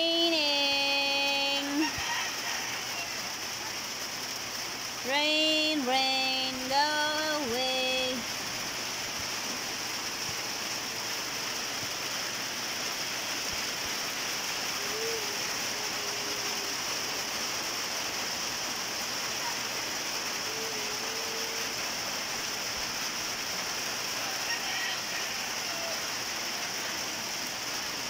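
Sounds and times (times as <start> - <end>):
rain falling on leafy trees: 0.0 - 28.0.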